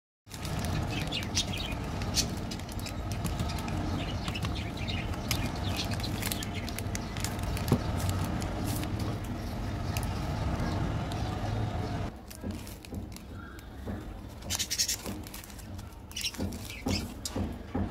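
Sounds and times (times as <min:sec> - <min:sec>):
plastic wrappers crinkling: 0:00.3 - 0:10.1, 0:12.1 - 0:13.7, 0:14.3 - 0:17.2
birds chirping: 0:00.3 - 0:17.9.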